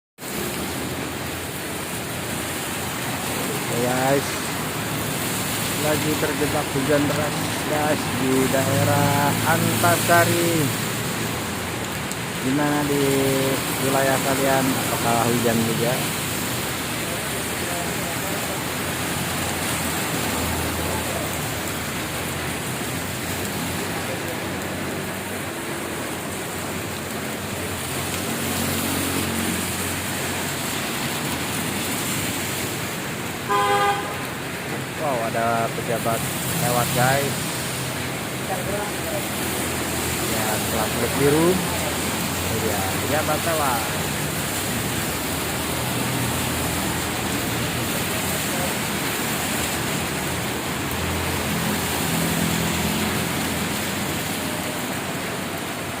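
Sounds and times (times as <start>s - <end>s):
heavy rain pouring: 0.2s - 56.0s.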